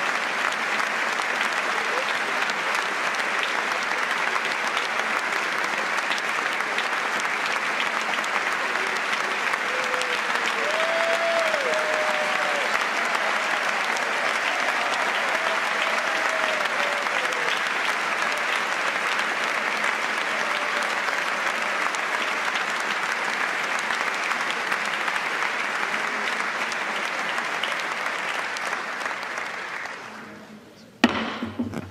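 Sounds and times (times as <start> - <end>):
large crowd applauding: 0.0 - 30.6.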